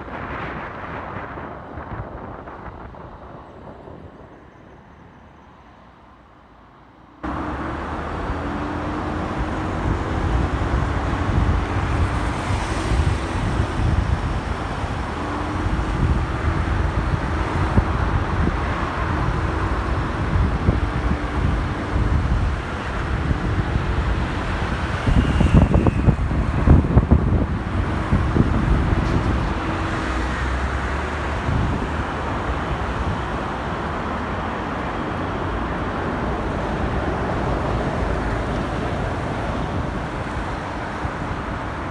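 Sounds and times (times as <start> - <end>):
wind buffeting microphone: 0.0 - 4.8, 7.2 - 41.9.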